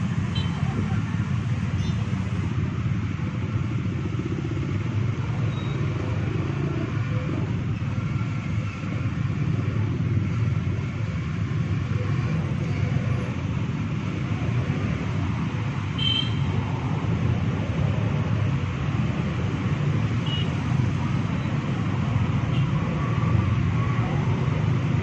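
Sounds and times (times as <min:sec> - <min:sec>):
motorcycle and car traffic rumble: 0:00.0 - 0:25.0.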